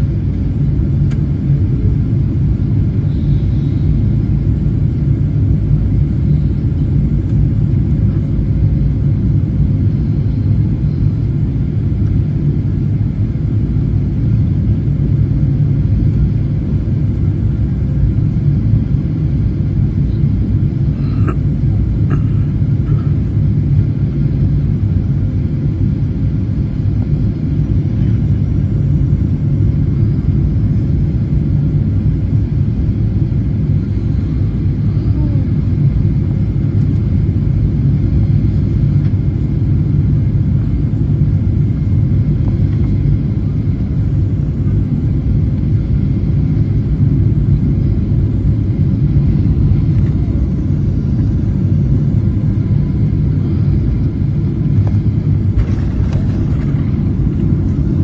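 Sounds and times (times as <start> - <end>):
faint steady whine: 0.0 - 58.0
jet engines rumbling in cabin: 0.0 - 58.0.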